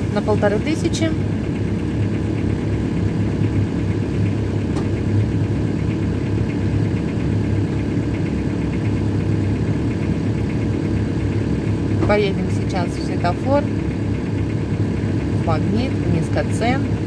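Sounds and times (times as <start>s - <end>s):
diesel car engine running: 0.0s - 17.0s.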